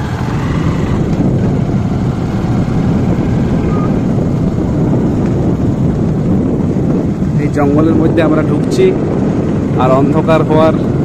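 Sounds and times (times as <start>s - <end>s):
motorbike engine rumble: 0.0s - 11.0s
wind buffeting microphone: 0.0s - 11.0s.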